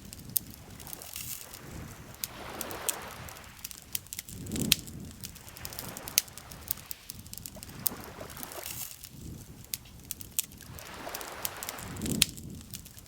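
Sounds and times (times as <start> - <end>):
campfire crackling: 0.0 - 13.0
lake water lapping: 0.0 - 13.0.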